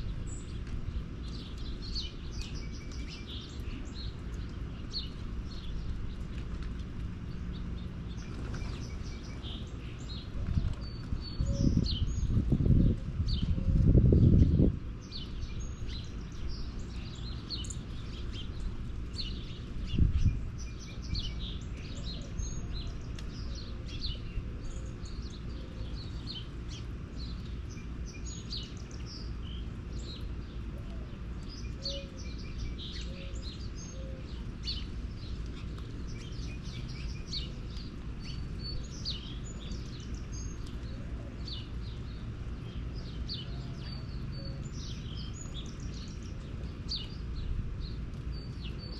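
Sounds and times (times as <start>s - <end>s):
small birds chirping: 0.0s - 48.9s
steady low rumble: 0.0s - 48.9s.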